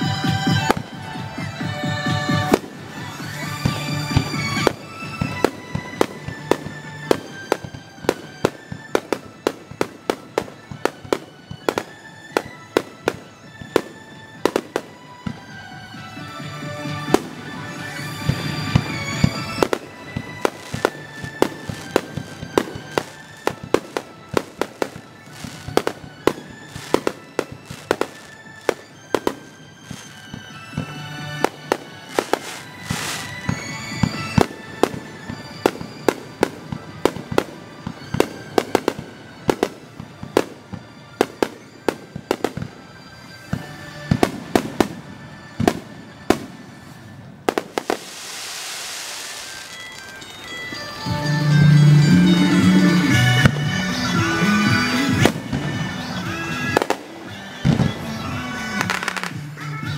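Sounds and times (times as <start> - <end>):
music playing: 0.0 - 59.9.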